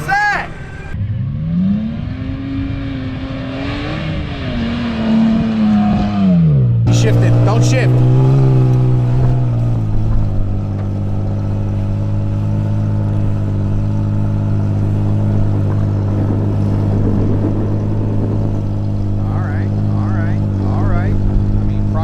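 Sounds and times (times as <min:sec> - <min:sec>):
off-road vehicle engine at high revs: 0:00.6 - 0:22.0.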